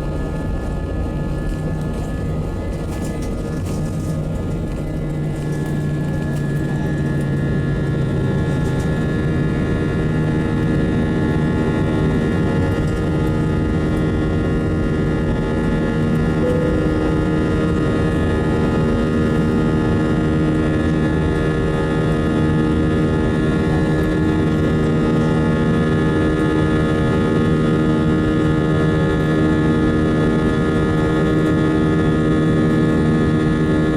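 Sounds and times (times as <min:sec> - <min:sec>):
jet engine drone in cabin: 0:00.0 - 0:33.9.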